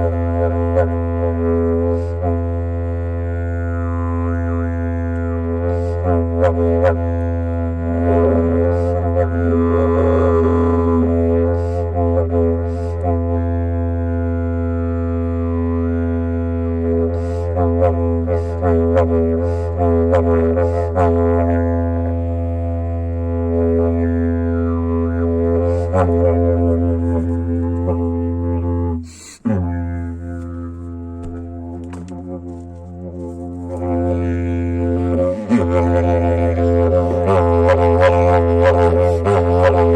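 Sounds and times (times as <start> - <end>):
didgeridoo drone: 0.0 - 39.9.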